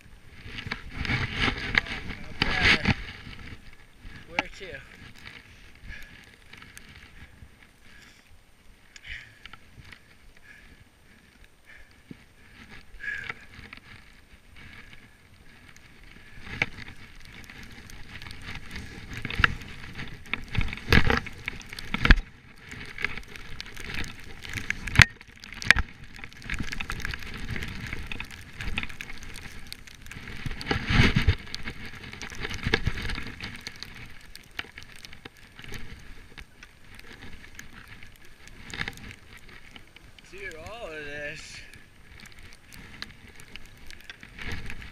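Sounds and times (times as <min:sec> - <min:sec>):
skis rushing through snow: 0:00.0 - 0:11.3, 0:12.6 - 0:44.9.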